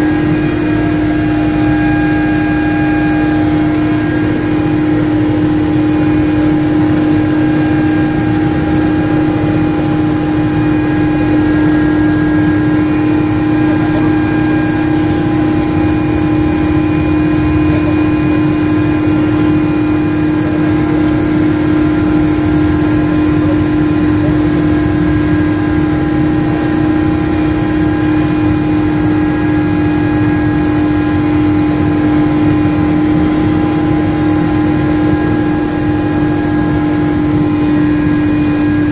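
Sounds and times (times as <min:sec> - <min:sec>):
helicopter drone inside cockpit: 0:00.0 - 0:38.9.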